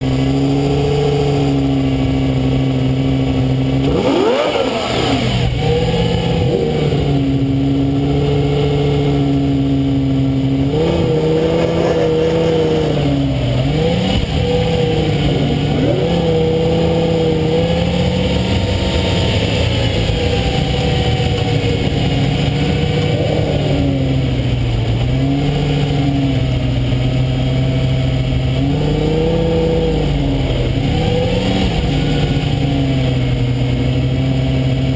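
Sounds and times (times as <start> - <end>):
sports car exhaust drone: 0.0 - 34.9.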